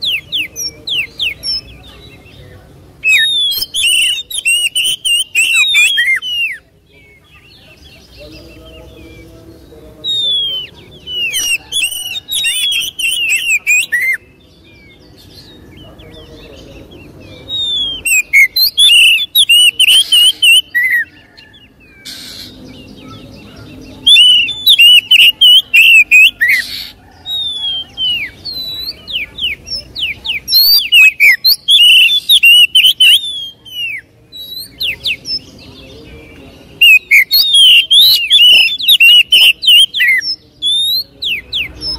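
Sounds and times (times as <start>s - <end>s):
bird singing chirps and whistles: 0.0s - 2.4s, 3.0s - 9.3s, 10.0s - 41.9s.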